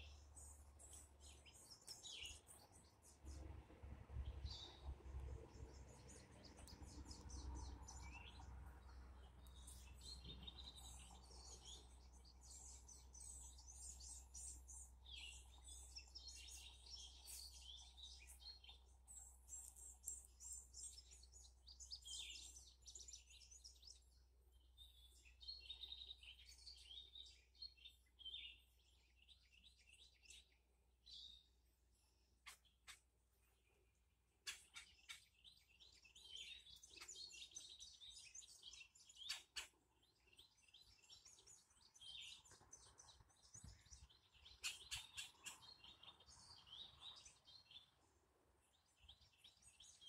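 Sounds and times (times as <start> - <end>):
small birds chirping rapidly: 0.0 - 50.0.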